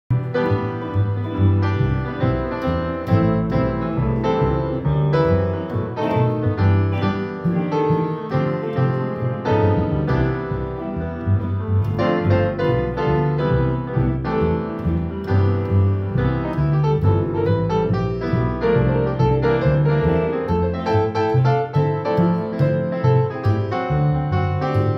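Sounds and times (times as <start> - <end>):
acoustic piano: 0.1 - 24.9
plucked double bass: 0.1 - 24.9
electric guitar: 0.2 - 23.8.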